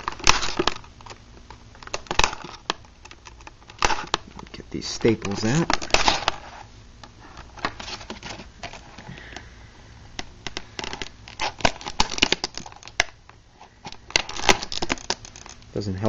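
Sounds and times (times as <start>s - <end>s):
plastic crinkling: 0.0s - 9.5s, 10.2s - 15.8s.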